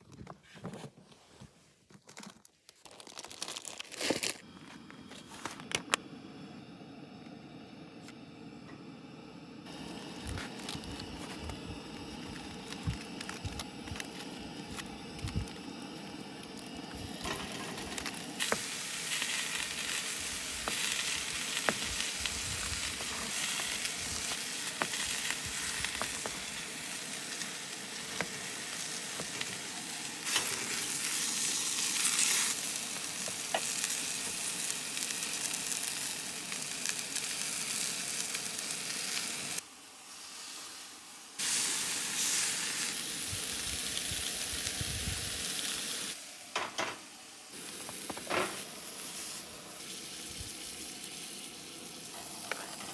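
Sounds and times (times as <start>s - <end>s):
chicken sizzling in pan: 9.5s - 52.9s.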